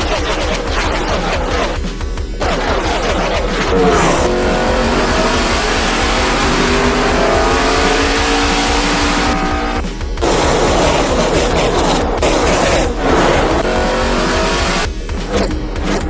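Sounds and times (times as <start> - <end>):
race car engines at high revs: 0.0 - 16.0.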